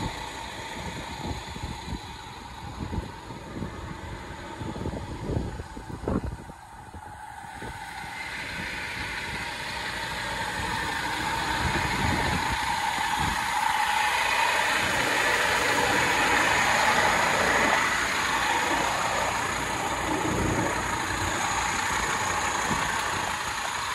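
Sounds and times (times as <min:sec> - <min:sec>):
diesel truck engine idling: 0:00.0 - 0:23.9.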